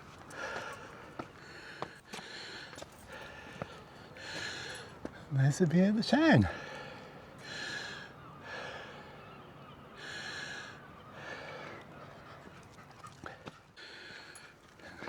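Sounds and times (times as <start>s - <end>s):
heavy panting breaths: 0.2s - 5.3s, 6.5s - 9.2s, 10.0s - 15.0s.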